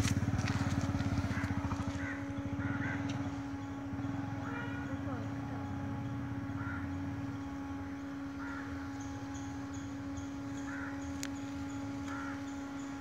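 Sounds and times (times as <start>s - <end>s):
bird calling: 0.0s - 13.0s
low hum: 0.0s - 13.0s.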